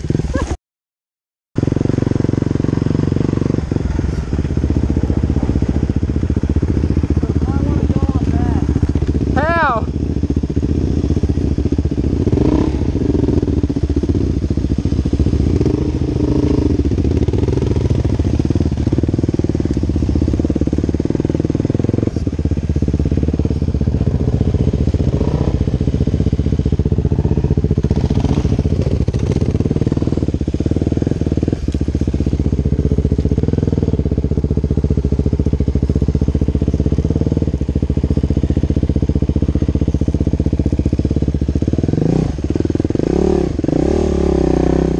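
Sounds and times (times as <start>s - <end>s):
dirt bike engine running: 0.0s - 0.6s, 1.6s - 44.9s.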